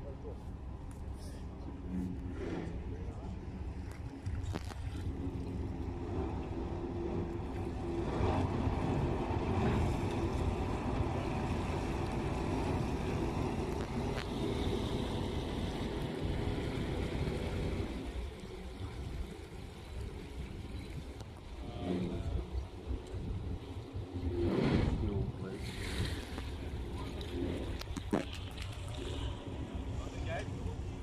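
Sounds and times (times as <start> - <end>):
tugboat diesel engine rumbling: 0.0 - 31.0.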